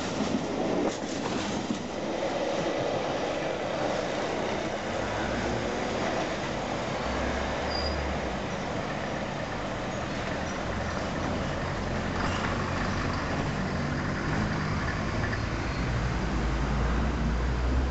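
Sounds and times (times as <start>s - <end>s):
freight train wheels rumbling: 0.0s - 16.4s.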